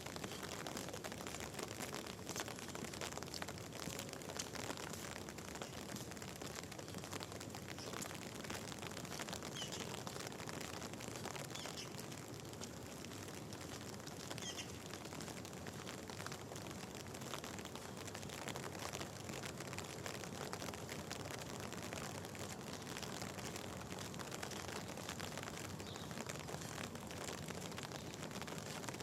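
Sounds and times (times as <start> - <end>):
steady rain patter: 0.0 - 29.0.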